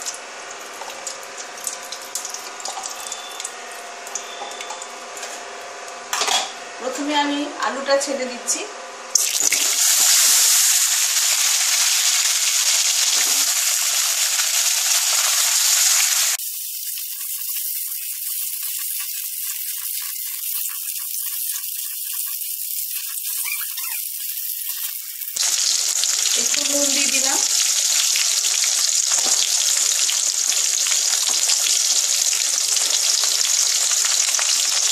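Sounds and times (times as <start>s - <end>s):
potatoes sizzling in hot oil: 0.0s - 4.8s, 9.1s - 34.9s.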